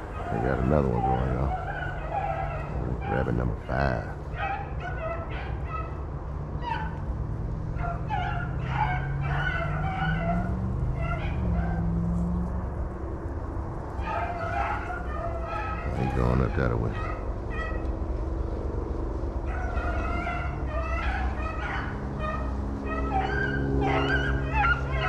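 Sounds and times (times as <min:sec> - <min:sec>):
hounds baying and yelping: 0:00.0 - 0:07.1, 0:07.7 - 0:12.8, 0:13.4 - 0:25.0.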